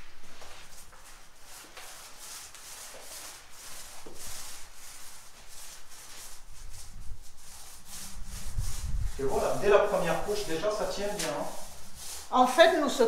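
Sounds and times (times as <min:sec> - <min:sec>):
paint roller swishing on concrete: 0:00.1 - 0:13.0.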